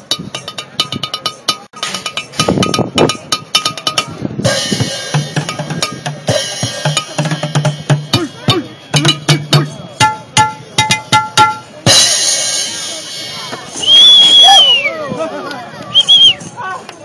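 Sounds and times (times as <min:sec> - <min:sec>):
junk percussion drumming: 0:00.0 - 0:14.1.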